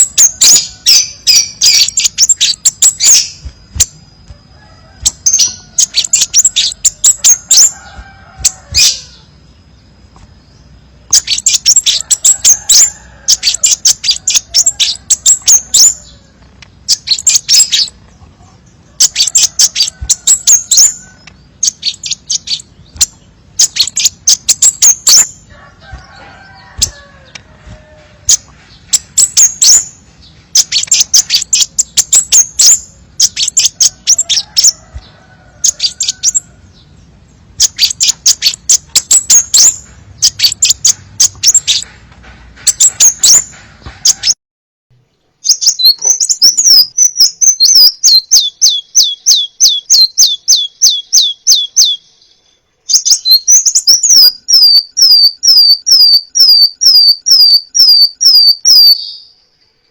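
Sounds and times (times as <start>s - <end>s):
bird chirping rapidly: 0.0s - 44.4s, 45.4s - 59.4s.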